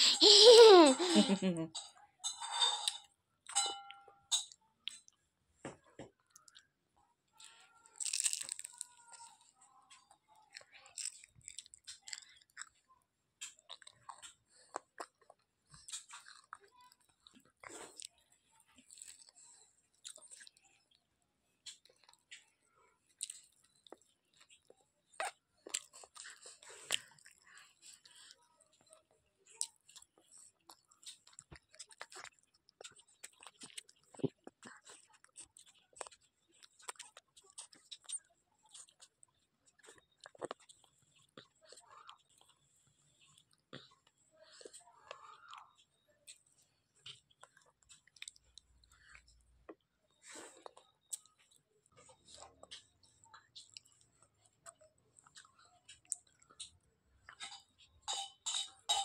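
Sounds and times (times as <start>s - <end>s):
child chewing crunchy food: 0.0s - 1.6s, 4.3s - 5.2s, 6.1s - 59.0s
soft eating clicks and rustles: 0.0s - 59.0s.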